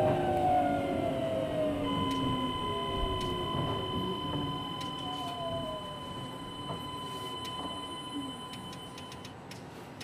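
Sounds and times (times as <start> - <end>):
train rumble from inside: 0.0 - 10.0
thin steady whine: 0.3 - 9.3.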